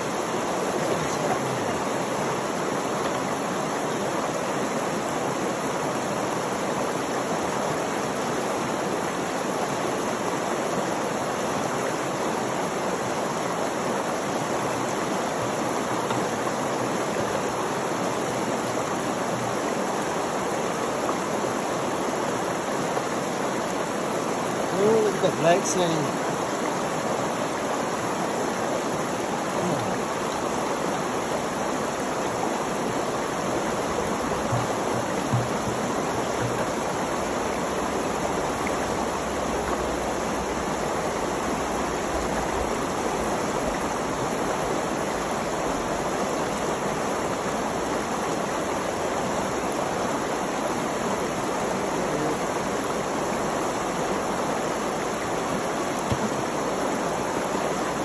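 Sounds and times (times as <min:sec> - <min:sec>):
creek water flowing: 0:00.0 - 0:58.0.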